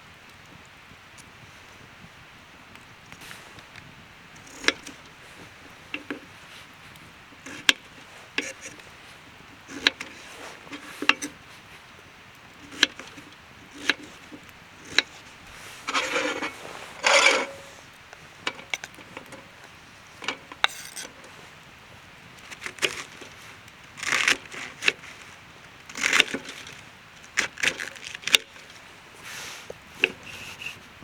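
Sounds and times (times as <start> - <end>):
scraping rustles: 3.2 - 11.9, 12.6 - 21.6, 22.2 - 31.0.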